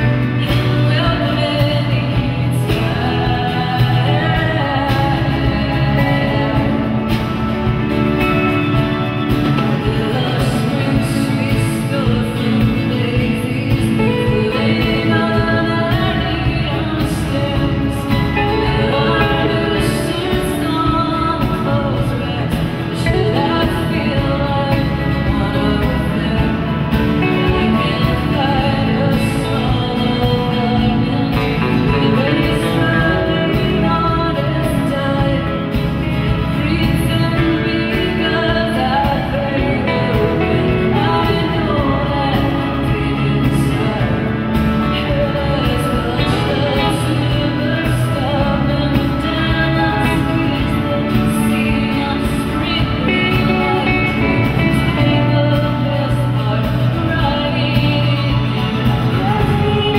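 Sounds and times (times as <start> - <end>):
band playing: 0.0 - 59.9
strummed acoustic guitar: 0.0 - 59.9
woman singing folk song: 0.0 - 59.9.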